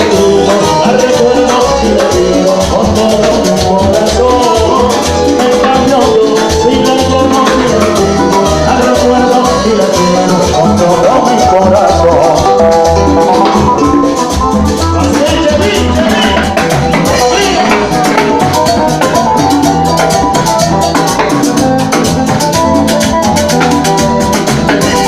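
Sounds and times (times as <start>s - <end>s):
drums: 0.0s - 25.0s
latin band playing: 0.0s - 25.0s
maracas: 0.0s - 25.0s.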